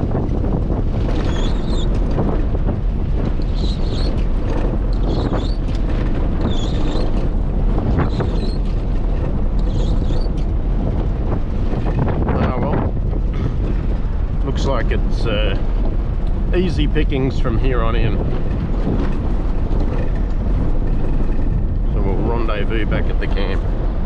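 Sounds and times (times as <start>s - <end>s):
tyre and engine rumble: 0.0s - 24.0s
windscreen wipers squeaking: 0.0s - 24.0s.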